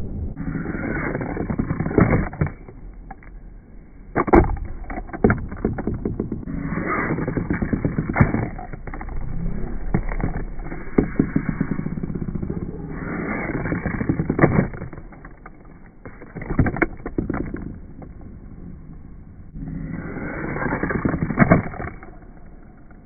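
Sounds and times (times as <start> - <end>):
small plastic wheels rumbling: 0.3 - 3.4, 4.2 - 18.4, 19.6 - 23.0.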